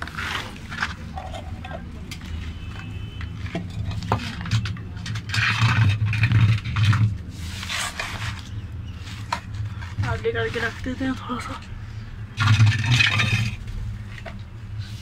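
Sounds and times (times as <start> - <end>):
clay dish scraping on concrete: 0.0 - 11.0, 12.3 - 15.0.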